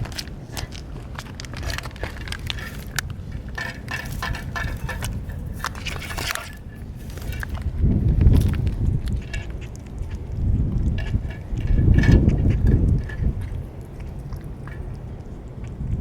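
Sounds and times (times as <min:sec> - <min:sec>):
cats crunching dry food: 0:00.0 - 0:16.0
low background rumble: 0:00.0 - 0:16.0.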